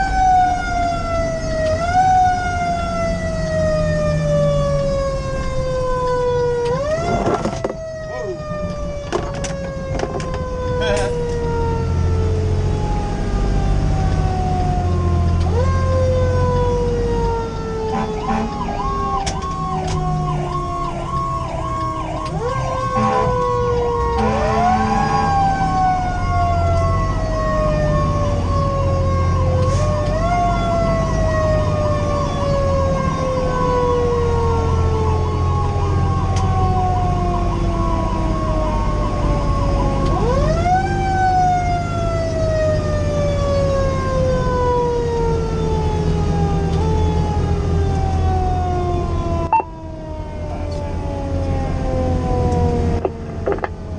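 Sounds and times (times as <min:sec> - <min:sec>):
diesel engine droning: 0:00.0 - 0:53.9
electronic siren yelping: 0:03.0 - 0:44.7, 0:45.4 - 0:51.4.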